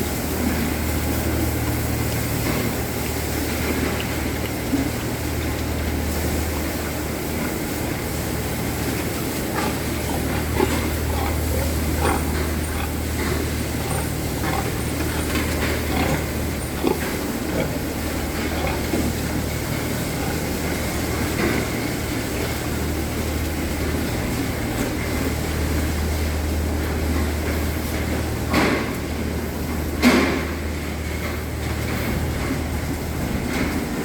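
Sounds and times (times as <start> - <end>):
machinery humming: 0.0 - 28.5.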